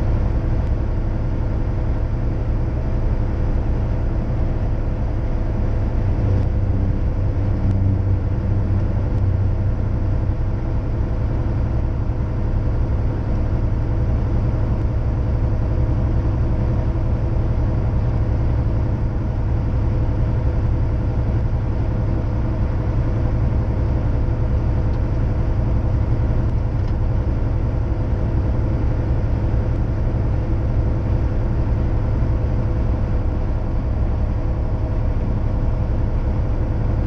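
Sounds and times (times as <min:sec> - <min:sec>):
truck engine and tyres droning: 0:00.0 - 0:37.0.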